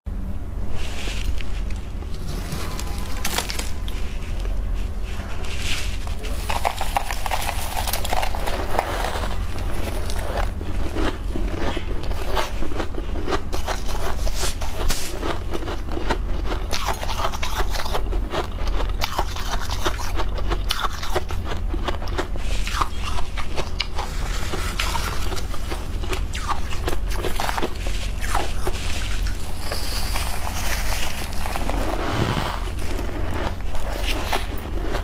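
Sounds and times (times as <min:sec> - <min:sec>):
frost crunching: 0:00.7 - 0:35.0.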